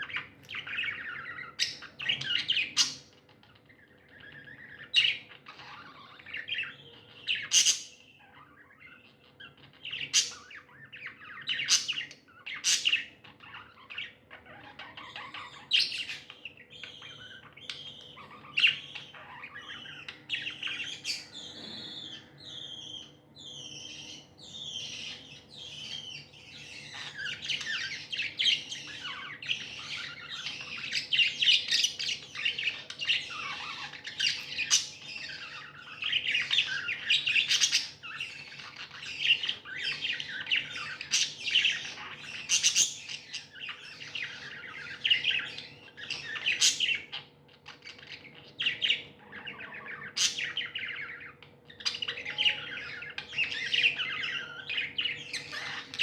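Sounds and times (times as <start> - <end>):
budgies chirping and chattering: 0.0 - 56.0.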